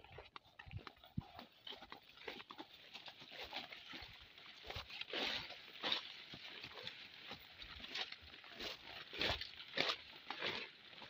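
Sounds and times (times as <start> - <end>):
footsteps through leaves and grass: 0.0 - 11.0.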